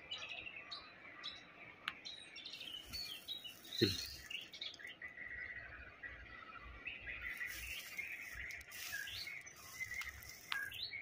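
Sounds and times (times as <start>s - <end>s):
bird singing whistled notes: 0.1s - 11.0s.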